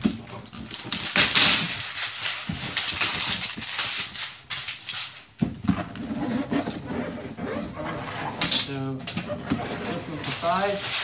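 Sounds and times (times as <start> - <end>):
plastic shrink wrap crinkling and tearing: 0.0 - 5.4, 6.0 - 11.0.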